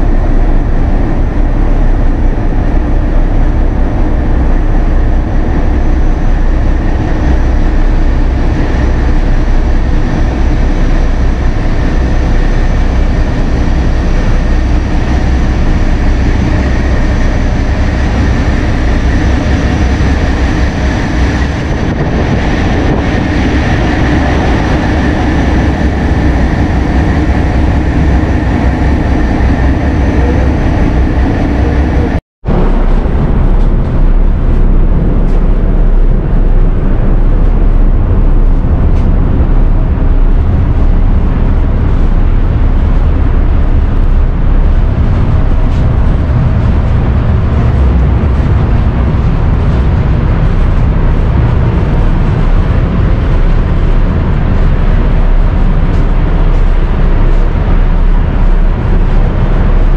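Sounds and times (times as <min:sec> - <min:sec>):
engine room machinery drone: 0:00.0 - 0:59.9.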